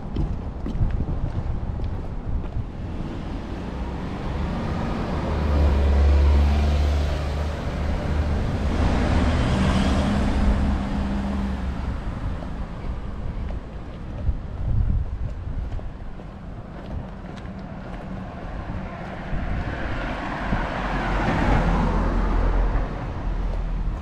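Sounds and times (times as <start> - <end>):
low engine hum: 0.0 - 24.0
car passing with tyre noise: 2.6 - 24.0.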